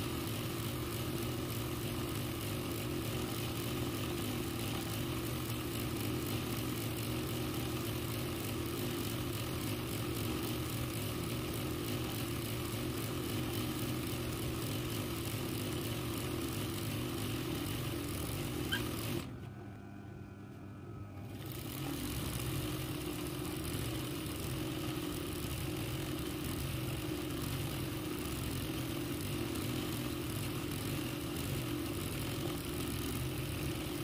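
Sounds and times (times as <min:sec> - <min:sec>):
sewing machine running: 0:00.0 - 0:19.3, 0:21.2 - 0:34.0.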